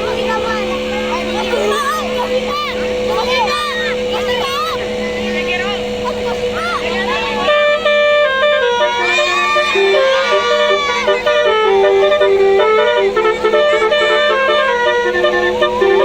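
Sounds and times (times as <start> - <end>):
multi-tone horn melody: 0.0 - 16.0
steady low hum: 0.0 - 16.0.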